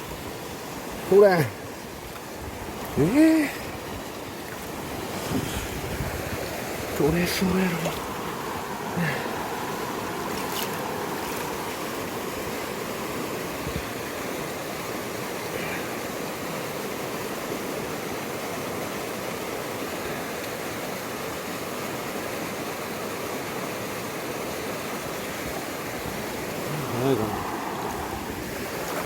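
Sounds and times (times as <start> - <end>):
river rushing: 0.0 - 29.0.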